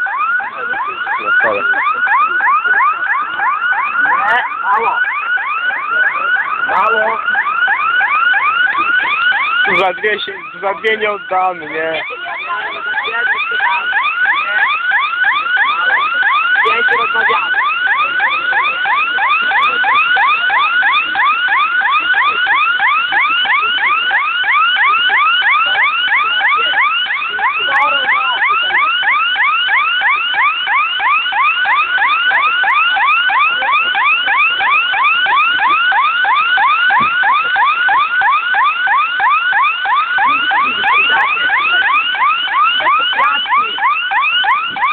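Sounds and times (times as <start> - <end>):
car alarm siren whooping: 0.0 - 44.9.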